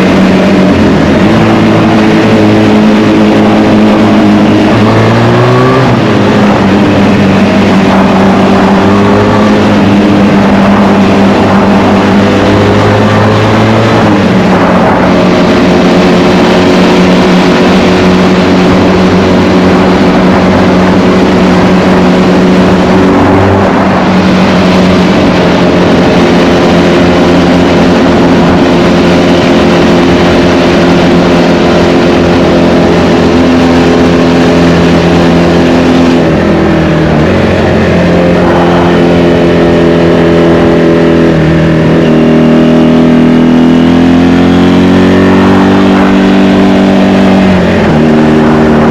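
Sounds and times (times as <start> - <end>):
motorcycle engine under load: 0.0 - 48.9.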